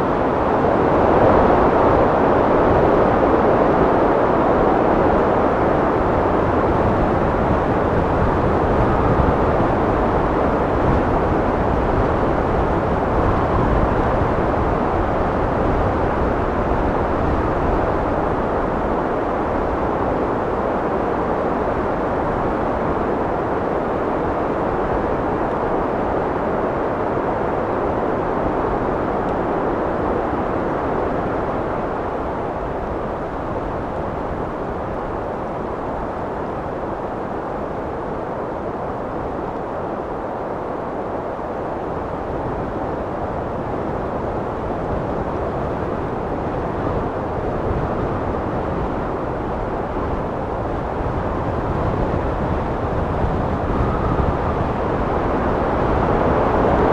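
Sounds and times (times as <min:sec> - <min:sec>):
steady wind blowing: 0:00.0 - 0:56.9.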